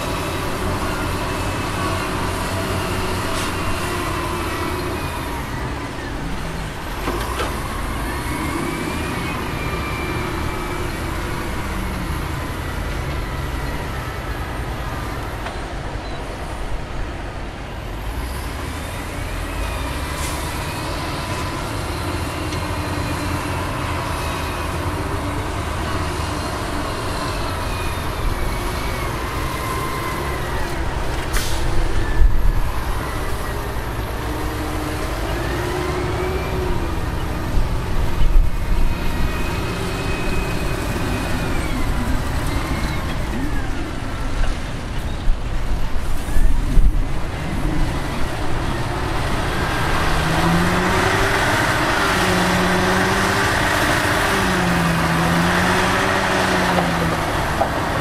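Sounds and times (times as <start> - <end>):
diesel truck engine revving: 0.0 - 15.5, 17.8 - 58.0.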